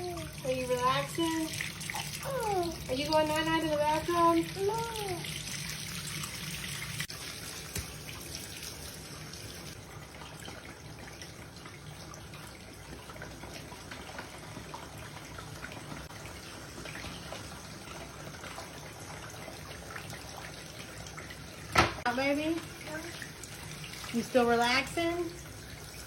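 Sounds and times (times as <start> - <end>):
water drips and splashes: 0.0 - 26.0
water trickling from tap: 0.0 - 26.0.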